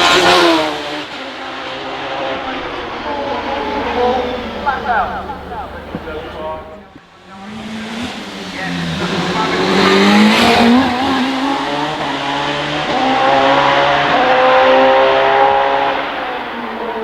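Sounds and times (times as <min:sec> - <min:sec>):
racing car engine accelerating: 0:00.0 - 0:17.0.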